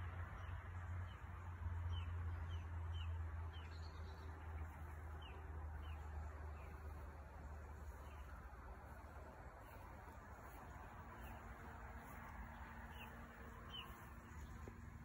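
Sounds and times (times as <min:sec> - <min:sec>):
bird chirping: 0:01.9 - 0:15.0.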